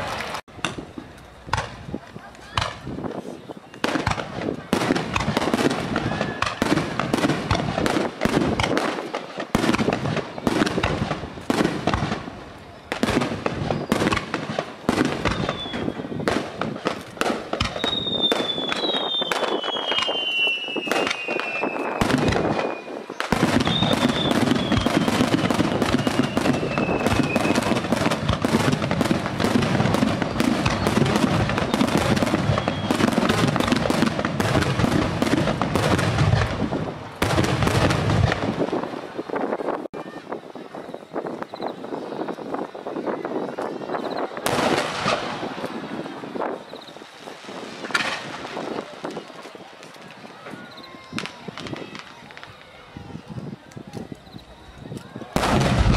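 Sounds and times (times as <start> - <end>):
fireworks bangs and crackles: 0.0 - 55.9
fireworks whistles: 0.6 - 55.9.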